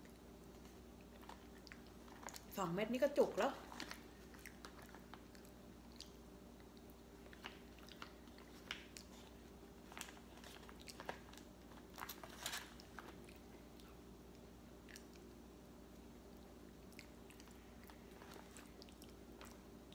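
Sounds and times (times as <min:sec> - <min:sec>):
soft chewing: 0:00.0 - 0:02.6, 0:03.2 - 0:19.9.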